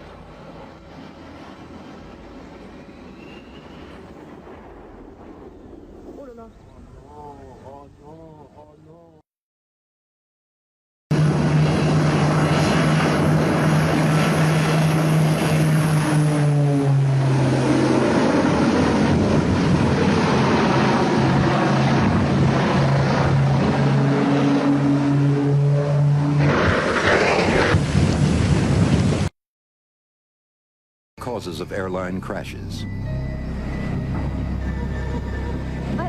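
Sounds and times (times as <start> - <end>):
jet engines passing: 0.0 - 9.2, 11.1 - 29.3, 31.2 - 36.0.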